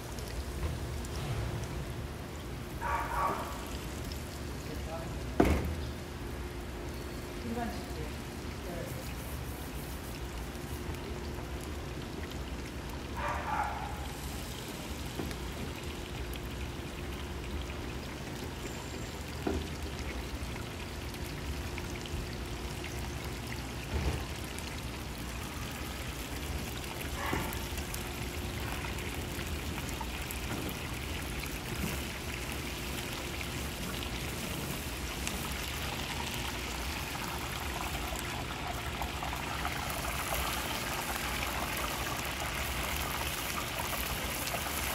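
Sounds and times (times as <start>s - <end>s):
oil sizzling and bubbling: 0.0s - 44.9s.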